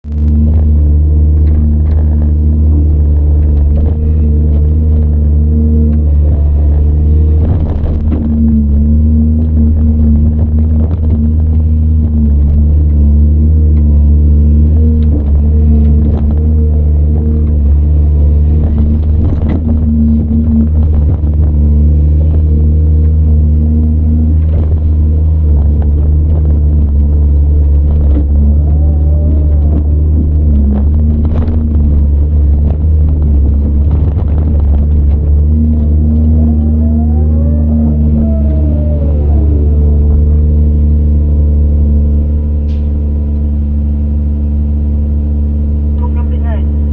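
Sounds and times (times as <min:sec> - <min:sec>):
excavator diesel engine: 0:00.0 - 0:46.9
wavering whines: 0:00.1 - 0:46.9.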